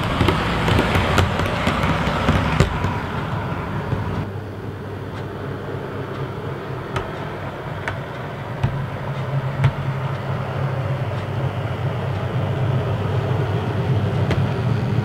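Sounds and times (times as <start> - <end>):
model train motor hum: 0.0 - 15.0
wheels clicking over rail joints: 0.0 - 15.0.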